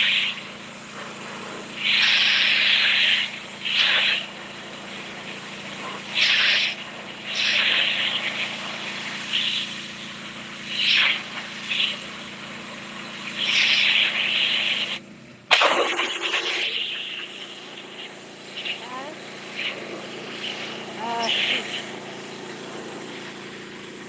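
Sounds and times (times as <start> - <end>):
high-pressure water jet hissing: 0.0 - 24.0
pressure washer engine running: 0.0 - 24.0.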